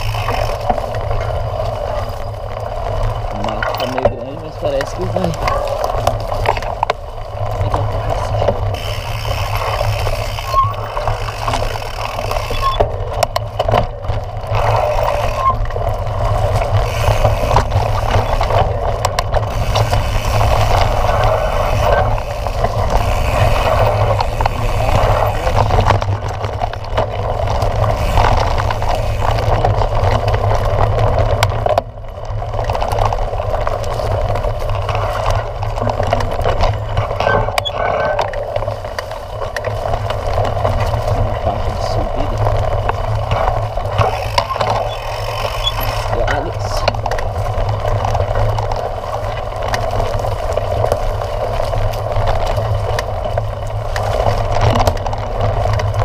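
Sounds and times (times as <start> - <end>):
bike rattling and knocking: 0.0 - 56.0
bike tyres rumbling on dirt trail: 0.0 - 56.0.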